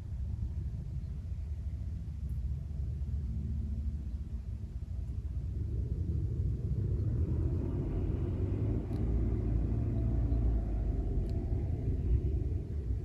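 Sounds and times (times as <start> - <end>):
faint hum rising in pitch: 0.0 - 13.0
steady low rumble: 0.0 - 13.0.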